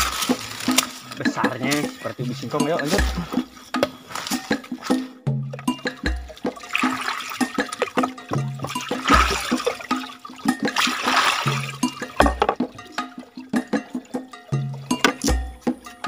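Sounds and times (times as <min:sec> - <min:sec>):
water pouring and splashing: 0:00.0 - 0:03.5, 0:04.1 - 0:15.4
background music with deep beat: 0:00.0 - 0:16.0.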